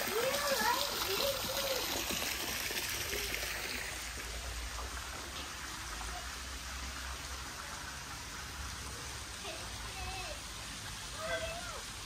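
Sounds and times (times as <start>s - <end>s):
water hissing: 0.0s - 12.0s.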